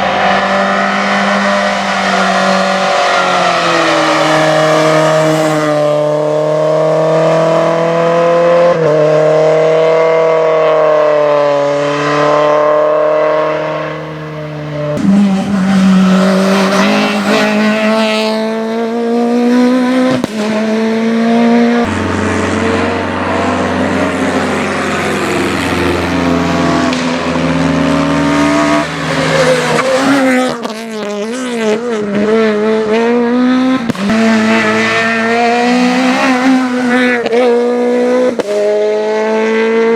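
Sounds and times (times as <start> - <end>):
rally car engines at full throttle: 0.0 - 39.9.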